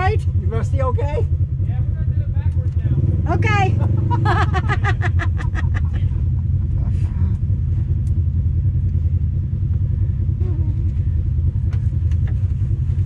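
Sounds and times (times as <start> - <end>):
utility vehicle engine idling: 0.0 - 13.0.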